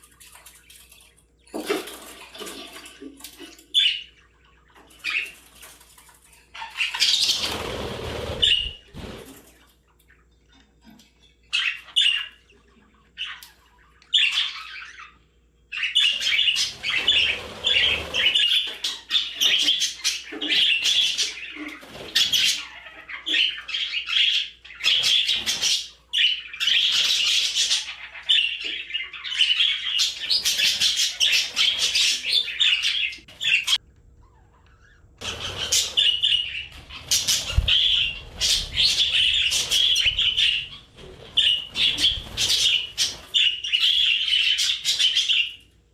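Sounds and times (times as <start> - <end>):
budgerigars chirping and warbling: 0.0 - 45.9.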